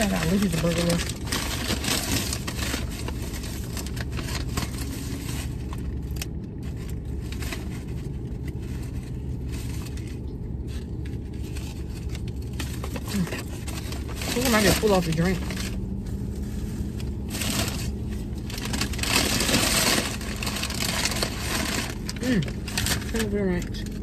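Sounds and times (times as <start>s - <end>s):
car engine idling hum: 0.0s - 24.0s
paper bag and box rustling: 0.0s - 24.0s.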